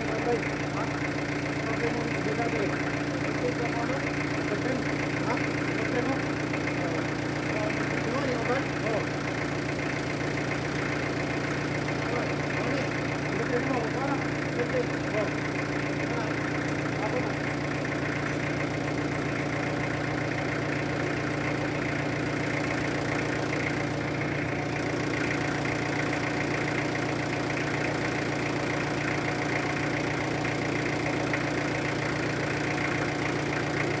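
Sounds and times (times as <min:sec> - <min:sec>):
forklift engine idling: 0:00.0 - 0:34.0.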